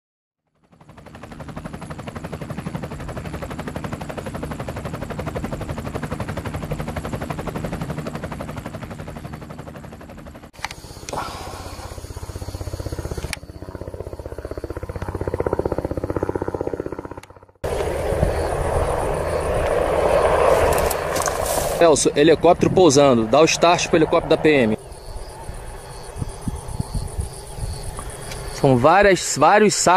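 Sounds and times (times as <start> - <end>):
helicopter rotor chopping: 0.5 - 29.9.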